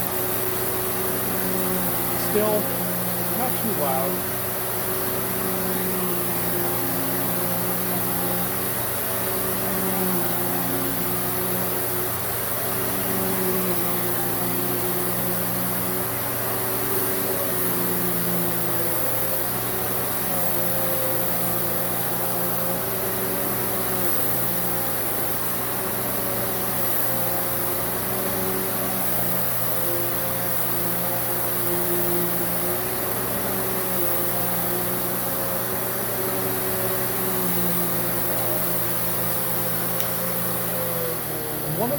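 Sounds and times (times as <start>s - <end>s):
upright vacuum cleaner running: 0.0s - 41.9s.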